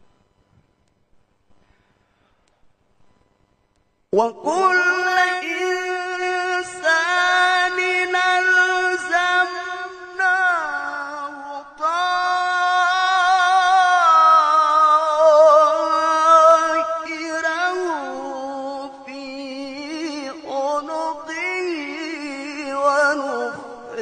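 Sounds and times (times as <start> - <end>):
man reciting melodically: 4.1 - 24.0.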